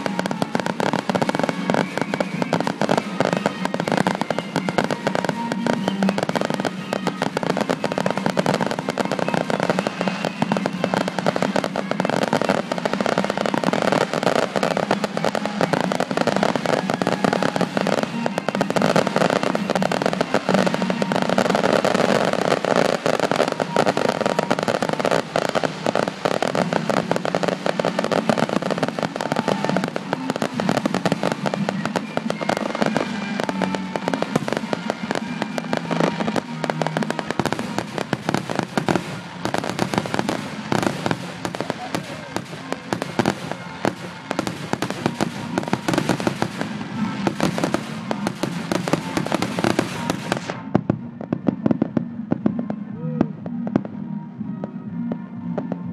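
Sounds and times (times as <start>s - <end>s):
fireworks crackling and popping: 0.0s - 55.9s.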